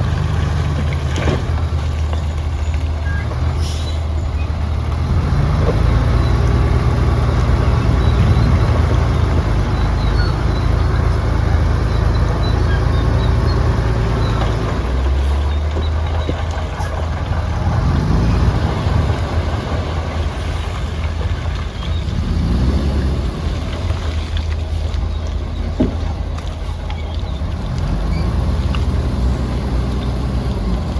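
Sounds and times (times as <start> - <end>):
bulldozer diesel engine under load: 0.0 - 30.9.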